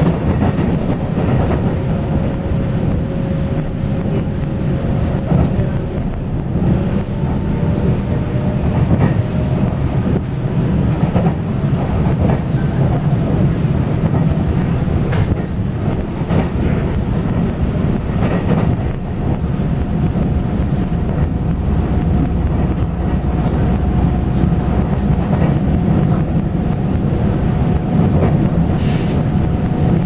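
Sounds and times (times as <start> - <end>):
train rumble: 0.0 - 30.0
wind noise: 0.0 - 30.0.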